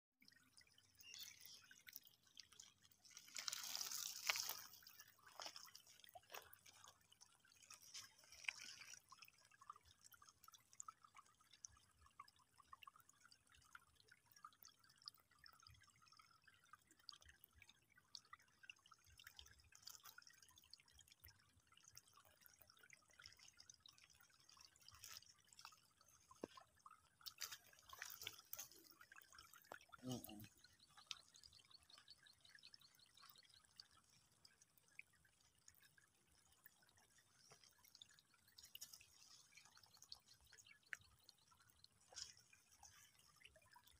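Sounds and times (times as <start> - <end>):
water trickling over gravel: 0.2 - 43.9.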